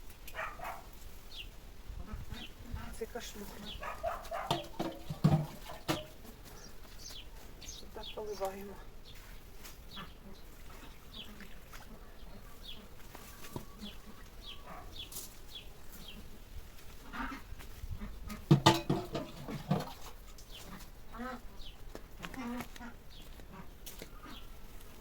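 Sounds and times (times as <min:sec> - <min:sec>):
small birds chirping: 0:00.3 - 0:18.5, 0:20.0 - 0:25.0.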